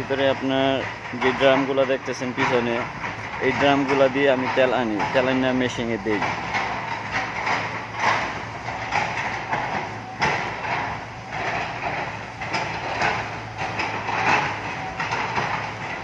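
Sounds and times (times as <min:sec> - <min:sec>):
clanks and knocks: 0:00.0 - 0:16.0
engine running: 0:00.0 - 0:16.0.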